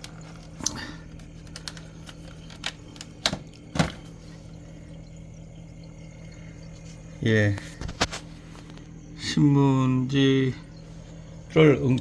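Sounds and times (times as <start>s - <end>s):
refrigerator condenser fan humming: 0.0s - 12.0s.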